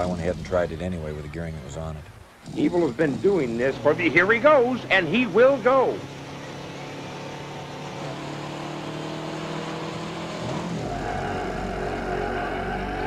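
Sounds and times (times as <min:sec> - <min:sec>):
motorcycle engine accelerating: 0:02.5 - 0:13.0.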